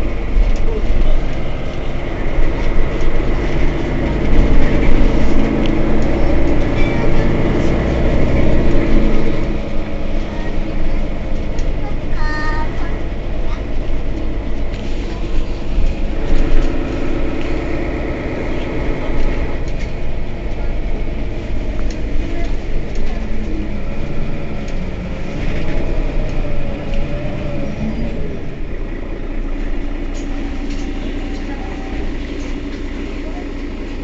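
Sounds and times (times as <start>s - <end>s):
bus diesel engine idling: 0.0s - 34.0s.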